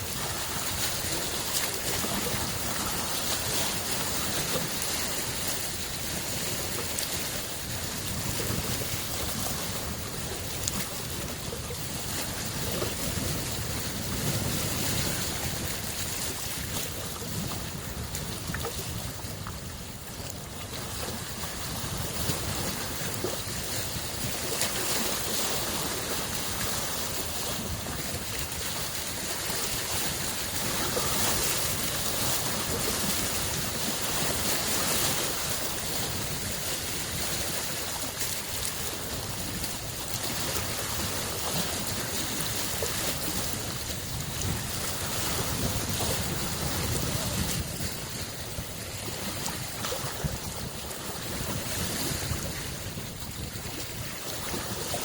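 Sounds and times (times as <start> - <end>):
waves lapping on shore: 0.0 - 55.0
wind on microphone: 0.0 - 55.0.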